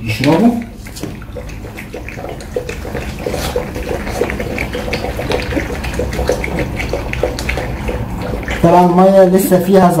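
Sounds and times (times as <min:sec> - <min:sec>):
puppies lapping water: 0:00.0 - 0:10.0.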